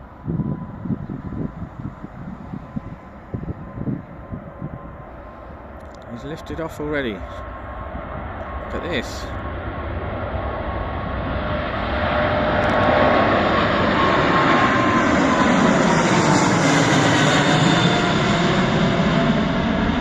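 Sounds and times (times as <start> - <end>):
jet airliner taking off: 0.0 - 20.0.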